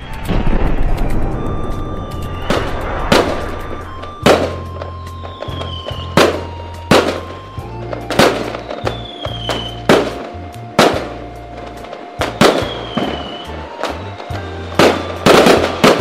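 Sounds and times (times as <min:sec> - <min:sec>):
background music with bass: 0:00.0 - 0:16.0
firework falling whistle: 0:00.0 - 0:16.0
fireworks bangs: 0:00.0 - 0:16.0.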